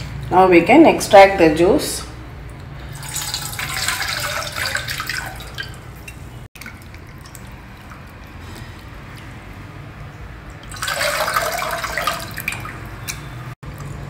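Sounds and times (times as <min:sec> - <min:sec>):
water dripping: 0:02.4 - 0:14.0.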